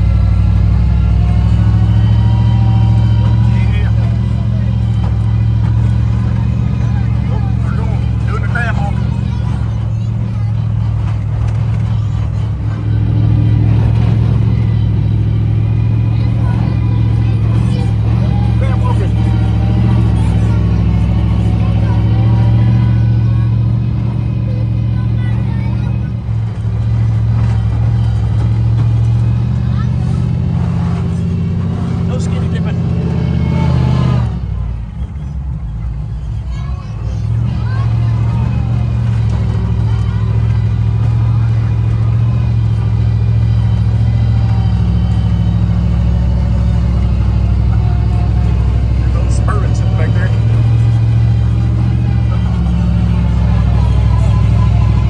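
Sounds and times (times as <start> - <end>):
vehicle engine and road noise: 0.0 - 55.0.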